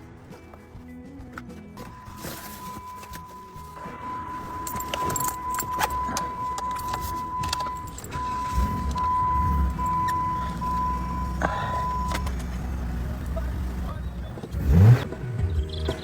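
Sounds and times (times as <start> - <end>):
keys jingling at ignition: 1.8 - 15.0
car engine idling: 1.8 - 16.0
high warning beep: 2.0 - 15.0.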